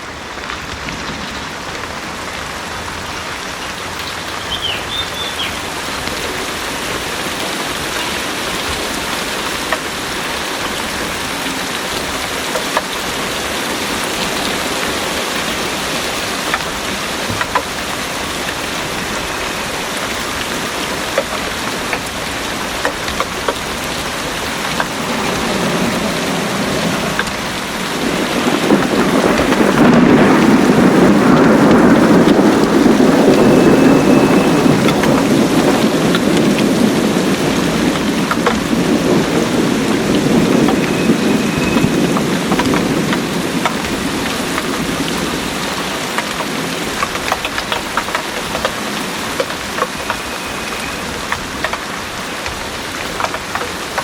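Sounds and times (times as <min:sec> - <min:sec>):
heavy rain pouring: 0:00.0 - 0:54.0
raindrops ticking: 0:00.0 - 0:54.0
thunder rumbling: 0:00.0 - 0:54.0.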